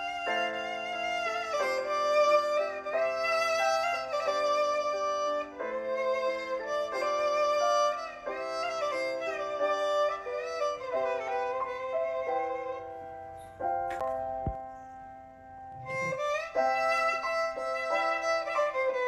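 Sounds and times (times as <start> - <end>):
held accompaniment: 0.0 - 19.0
violin melody: 0.0 - 19.0.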